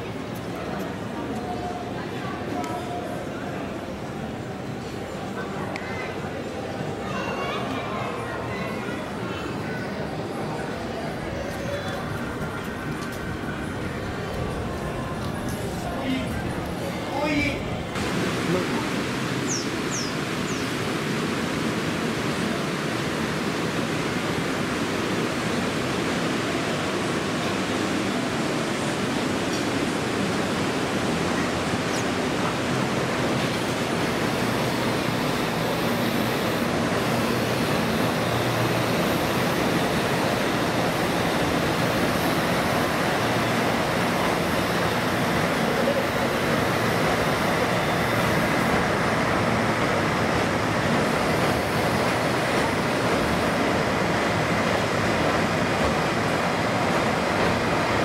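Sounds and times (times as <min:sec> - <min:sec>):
river rushing over boulders: 0:10.2 - 0:58.0.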